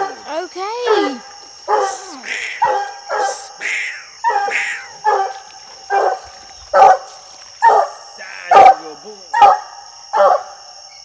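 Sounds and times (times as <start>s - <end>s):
hound barking: 0.0s - 0.2s, 0.8s - 3.5s, 4.2s - 10.6s.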